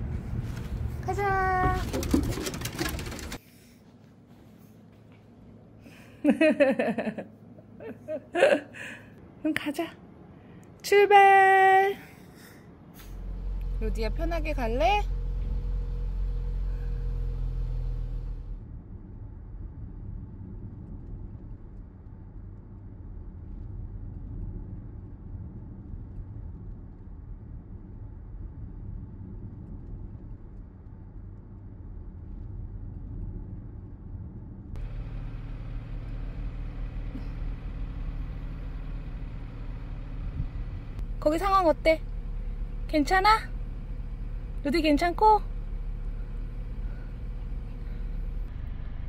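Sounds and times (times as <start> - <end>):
car engine and road noise: 0.0 - 3.4, 12.7 - 49.0.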